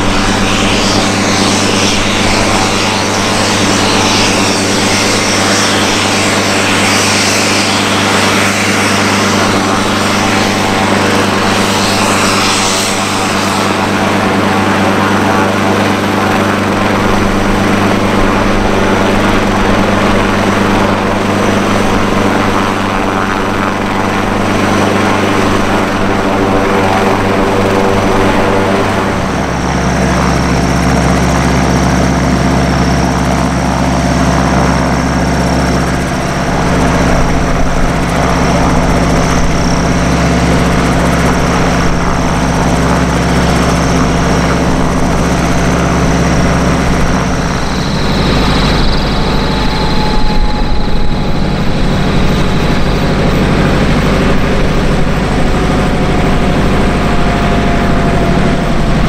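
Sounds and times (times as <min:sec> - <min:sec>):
hissing turbine whine: 0:00.0 - 0:59.0
propeller drone: 0:00.0 - 0:59.0.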